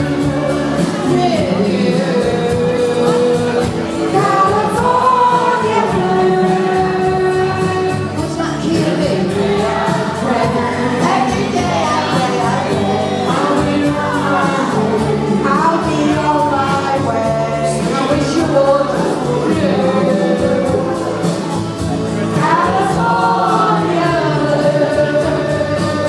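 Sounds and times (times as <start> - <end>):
backing music with steady beat: 0.0 - 26.0
two women singing a duet: 0.0 - 26.0.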